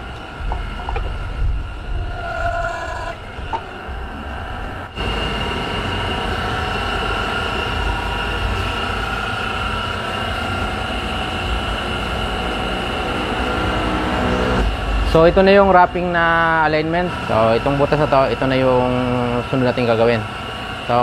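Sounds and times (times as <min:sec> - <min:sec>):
machine humming and whining: 0:00.0 - 0:21.0.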